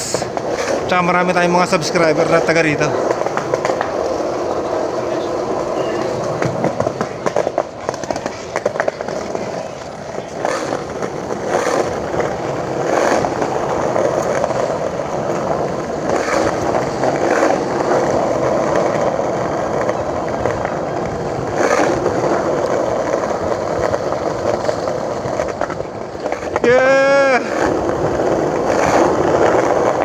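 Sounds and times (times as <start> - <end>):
skateboard clacks: 0.0 - 30.0
skateboard wheels rolling on paving: 0.0 - 30.0.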